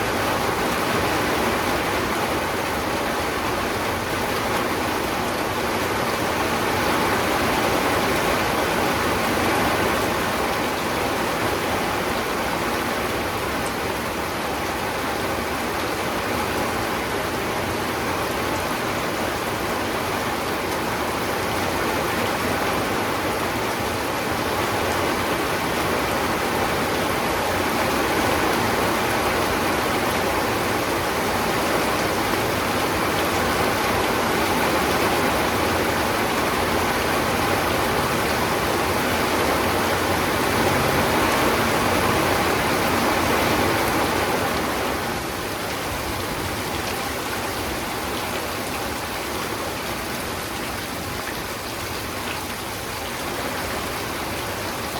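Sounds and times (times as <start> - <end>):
heavy rainfall: 0.0 - 54.9.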